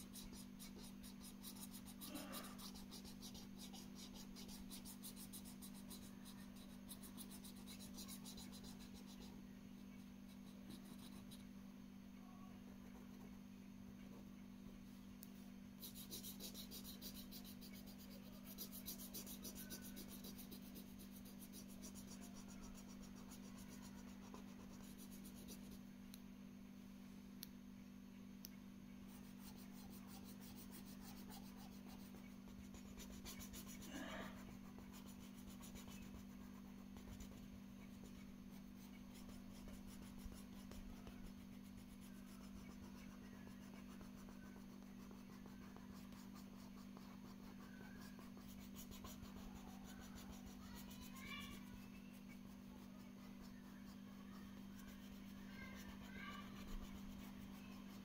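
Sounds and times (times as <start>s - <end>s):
marker scratching on paper: 0.0s - 11.5s, 15.8s - 25.8s, 29.1s - 58.0s
steady low hum: 0.0s - 58.0s.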